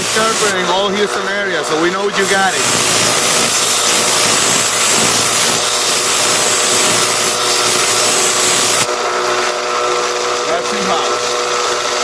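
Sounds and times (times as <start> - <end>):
belt grinder grinding blade: 0.0 - 12.0
motor humming: 0.0 - 12.0.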